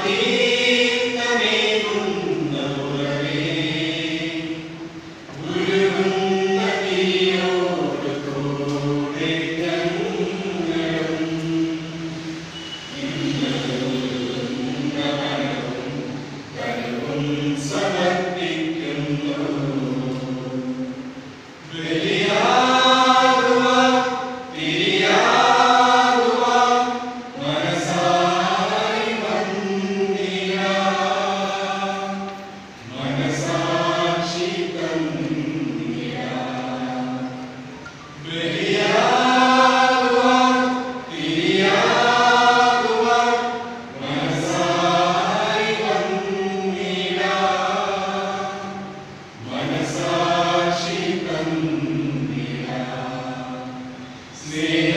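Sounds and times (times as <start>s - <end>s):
mixed choir singing unaccompanied: 0.0s - 54.9s.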